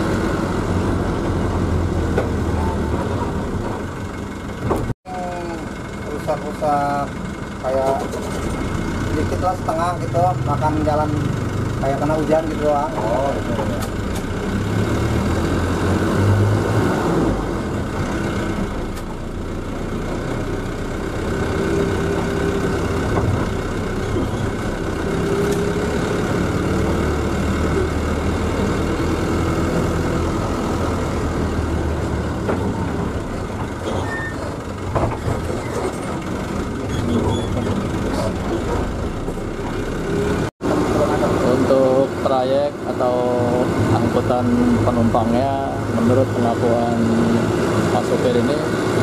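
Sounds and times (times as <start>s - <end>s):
diesel engine running: 0.0s - 49.0s
tyres on the road: 0.0s - 49.0s.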